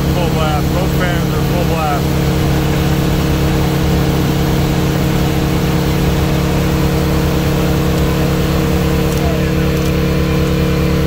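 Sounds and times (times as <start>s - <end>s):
twin engine running steadily: 0.0s - 11.0s.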